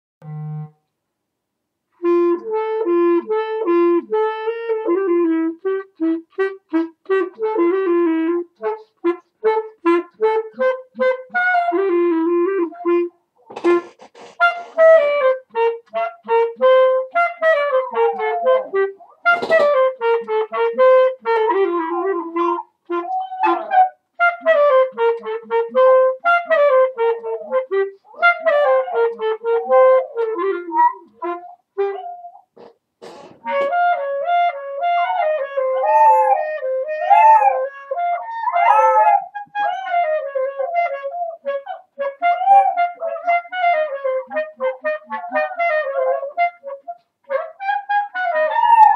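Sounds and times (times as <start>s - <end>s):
clarinet melody: 0.2s - 0.9s, 1.9s - 48.9s.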